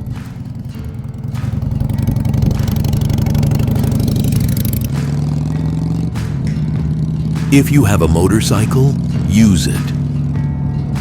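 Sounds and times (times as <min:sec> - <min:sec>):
motorcycle engine pulling away: 0:00.0 - 0:07.6, 0:09.0 - 0:09.3, 0:10.0 - 0:11.0.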